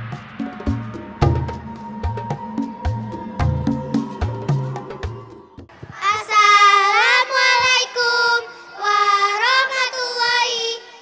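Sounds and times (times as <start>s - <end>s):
children singing: 1.3s - 11.0s.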